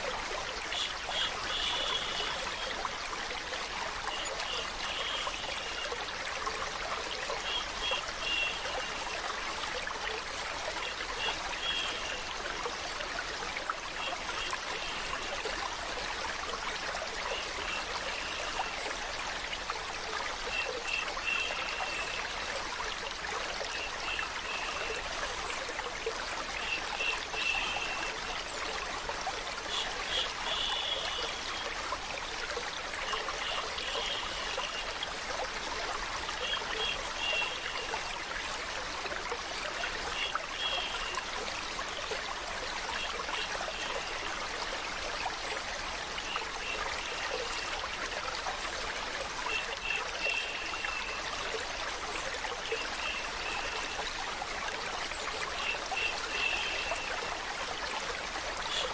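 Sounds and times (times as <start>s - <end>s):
water flowing and trickling: 0.0s - 58.9s.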